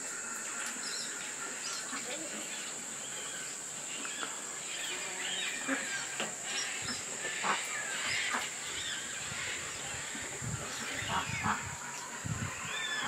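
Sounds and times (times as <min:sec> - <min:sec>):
cockatoos calling: 0:00.0 - 0:13.0
insects humming: 0:00.0 - 0:13.0.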